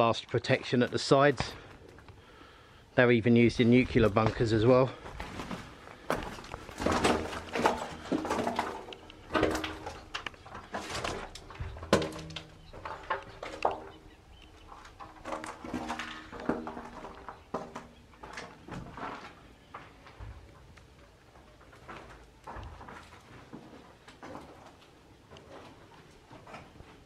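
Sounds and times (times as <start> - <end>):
echoing footsteps: 3.4 - 27.0.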